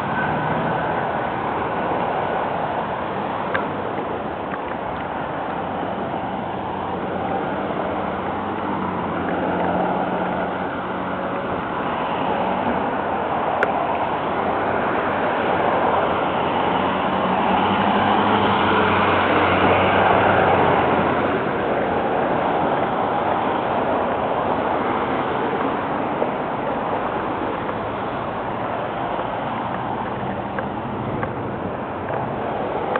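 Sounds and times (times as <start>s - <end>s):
cars passing: 0.0s - 32.9s.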